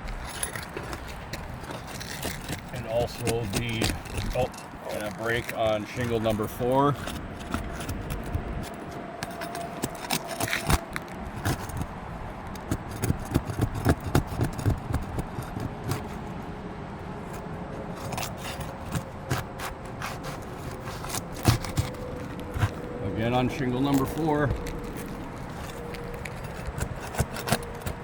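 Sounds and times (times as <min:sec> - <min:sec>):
shingles tearing and breaking: 0:00.0 - 0:16.3, 0:18.0 - 0:22.9, 0:23.7 - 0:28.0
roofing shingles being pried loose: 0:00.0 - 0:23.0, 0:23.6 - 0:28.0.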